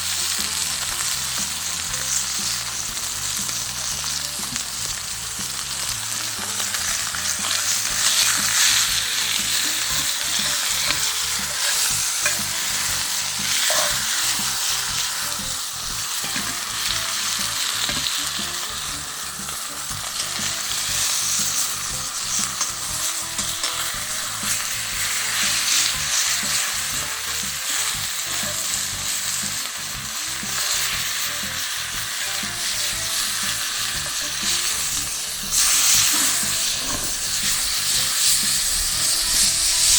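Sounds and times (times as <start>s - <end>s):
steak sizzling in a frying pan: 0.0s - 39.9s.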